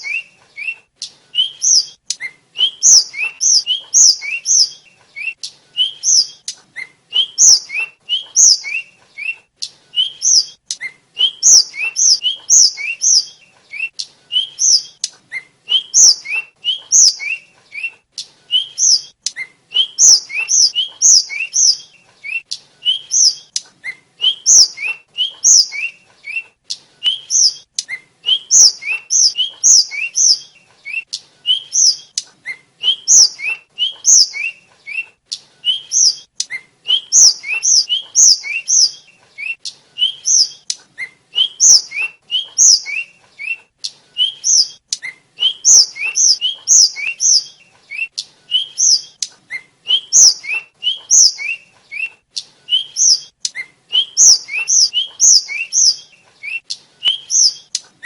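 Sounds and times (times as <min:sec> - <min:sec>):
bird singing rapid high chirps: 0:00.0 - 0:57.9.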